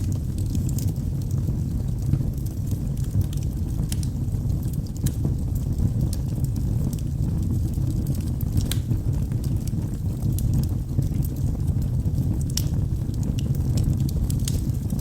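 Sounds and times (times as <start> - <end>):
fire flame rumble: 0.0 - 15.0
wood fire crackles and pops: 0.0 - 15.0.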